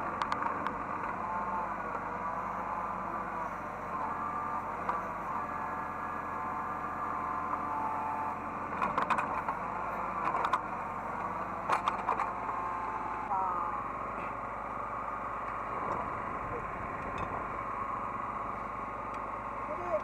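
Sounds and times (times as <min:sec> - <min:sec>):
excavator hydraulic whine: 0:00.0 - 0:19.7.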